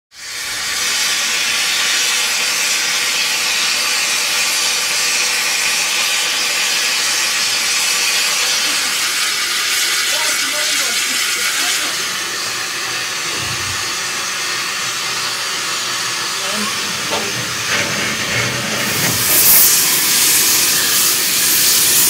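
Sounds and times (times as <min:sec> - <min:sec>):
steam hissing from locomotive: 0:00.1 - 0:22.0.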